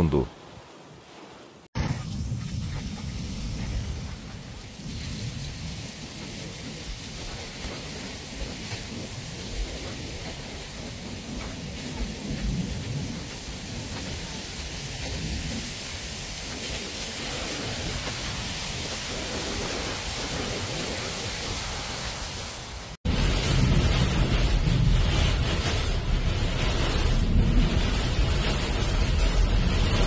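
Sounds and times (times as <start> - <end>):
heavy rain falling: 1.8 - 30.0.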